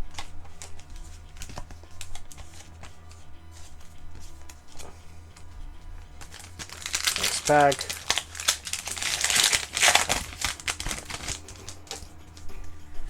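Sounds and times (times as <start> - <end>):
cards clicking and tapping: 0.0 - 12.8
low hum: 0.0 - 13.0.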